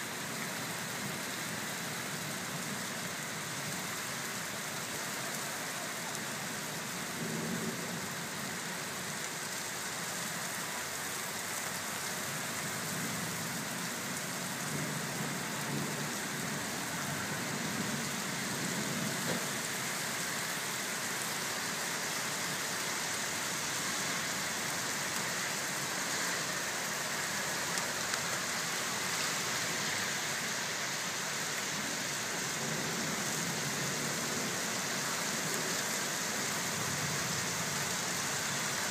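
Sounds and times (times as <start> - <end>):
rain on wet pavement: 0.0 - 38.9.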